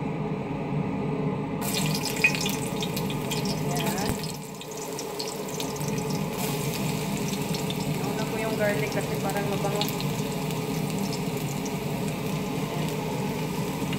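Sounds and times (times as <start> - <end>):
garlic sizzling in hot oil: 1.6 - 13.9.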